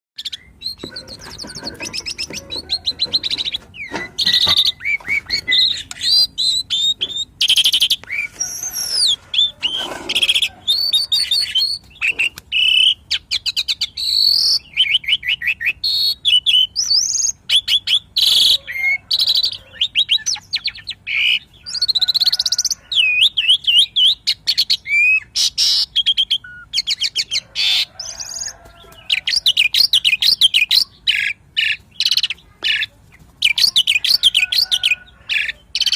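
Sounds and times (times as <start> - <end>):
starling singing: 0.2 - 35.9.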